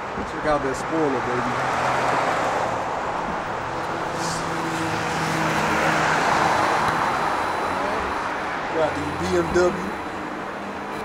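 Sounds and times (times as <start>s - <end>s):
road traffic rush: 0.0s - 11.0s.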